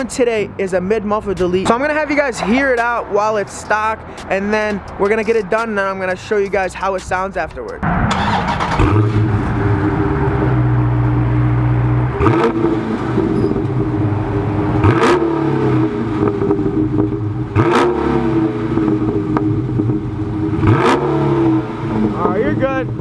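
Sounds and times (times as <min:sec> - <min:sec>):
car engine idling and revving: 0:00.0 - 0:06.6, 0:07.7 - 0:23.0.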